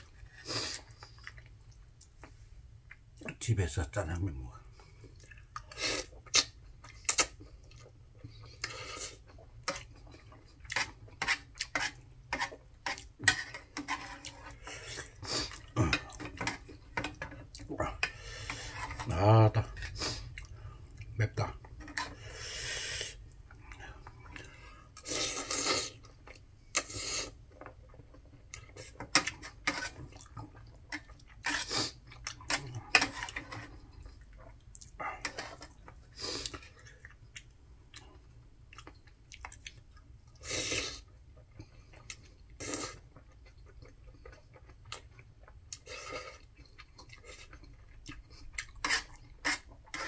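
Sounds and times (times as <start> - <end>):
man chewing food: 0.0 - 3.3, 4.7 - 50.0.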